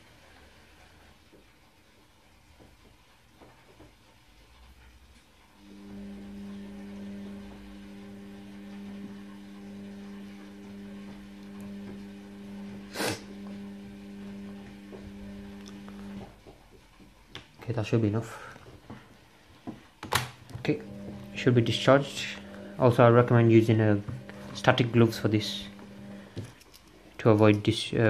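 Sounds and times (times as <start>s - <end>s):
appliance electrical hum: 5.2s - 28.0s.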